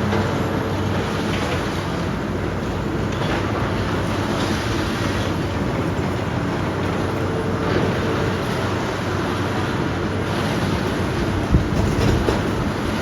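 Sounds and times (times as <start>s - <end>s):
diesel excavator engine rumbling: 0.0s - 13.0s.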